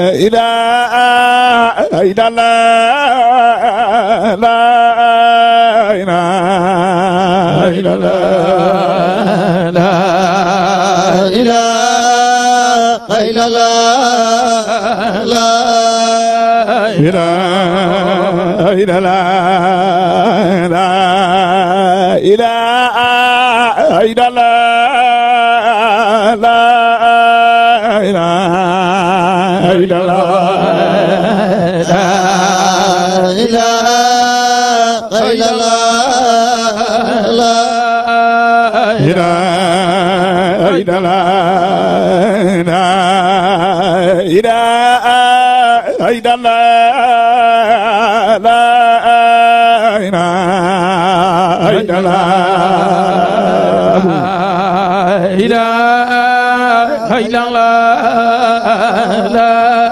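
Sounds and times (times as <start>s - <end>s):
man chanting into microphone: 0.0s - 59.9s.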